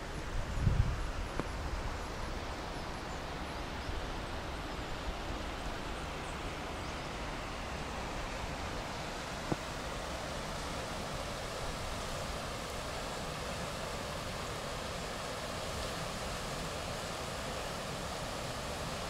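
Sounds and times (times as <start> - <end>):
river water rushing: 1.1 - 19.0.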